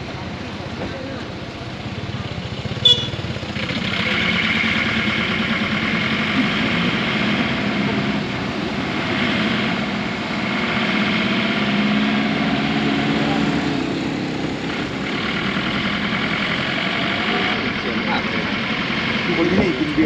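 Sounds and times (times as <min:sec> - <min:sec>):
van engine and road noise: 0:00.0 - 0:20.0.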